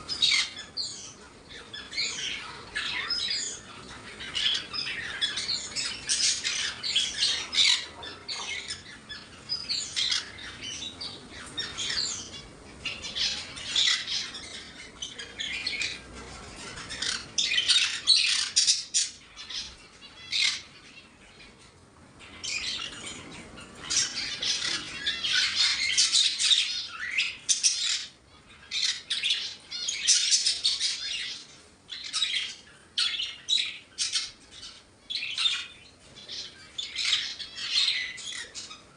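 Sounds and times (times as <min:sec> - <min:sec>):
parrots squawking and chirping: 0:00.0 - 0:38.9.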